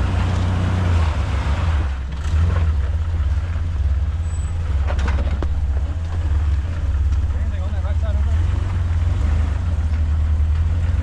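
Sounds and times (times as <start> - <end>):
car engine rumbling at low revs: 0.0 - 11.0.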